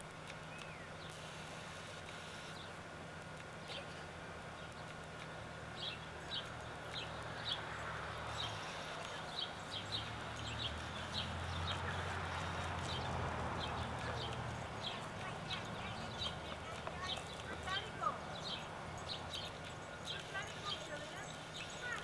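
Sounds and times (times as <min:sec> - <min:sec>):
steady low hum: 0:00.0 - 0:22.0
small birds chirping: 0:00.4 - 0:01.4, 0:03.5 - 0:22.0.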